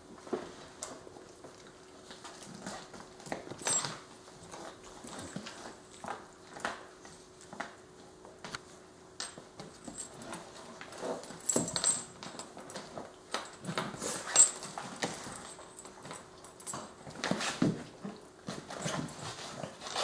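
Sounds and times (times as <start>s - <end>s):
dogs scuffling on wooden floor: 0.1s - 20.0s.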